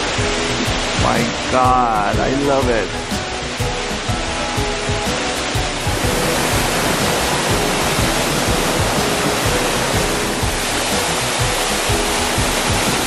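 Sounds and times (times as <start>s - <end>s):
soft background music: 0.0s - 13.0s
waterfall rushing onto rocks: 0.0s - 13.0s.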